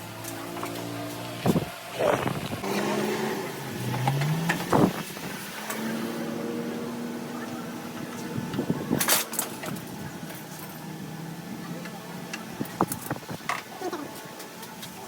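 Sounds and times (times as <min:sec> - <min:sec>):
vehicle engine running: 0:00.0 - 0:13.3.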